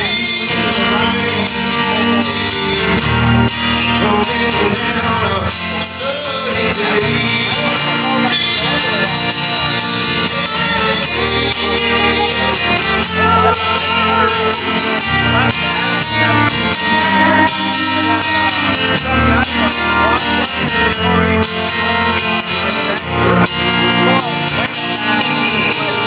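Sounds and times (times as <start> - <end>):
electric guitars: 0.0 - 26.0
live rock band playing: 0.0 - 26.0.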